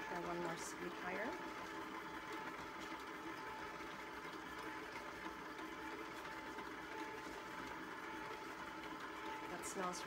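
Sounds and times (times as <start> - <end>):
stand mixer running: 0.0 - 10.0.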